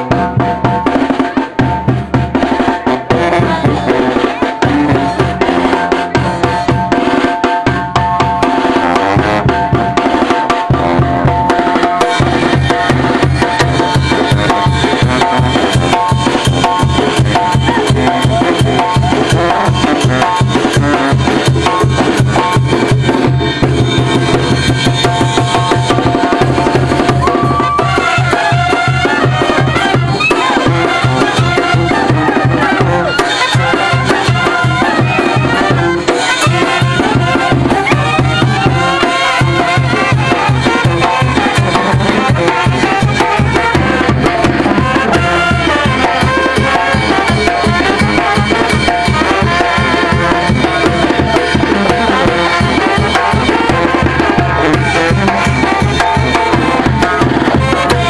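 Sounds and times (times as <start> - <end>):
bass drum beat: 0.0 - 58.0
brass band playing: 0.0 - 58.0
snare drum and cymbal: 0.0 - 58.0.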